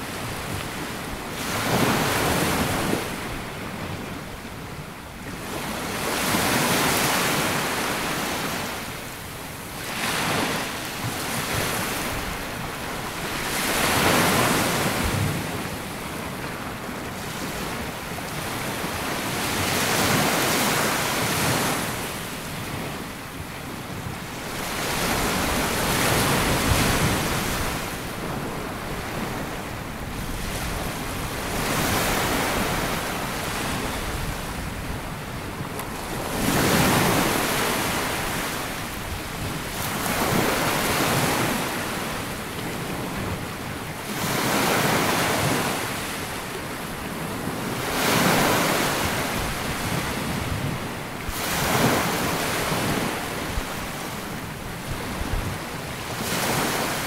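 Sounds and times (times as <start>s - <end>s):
small waves washing up a beach: 0.0s - 57.0s.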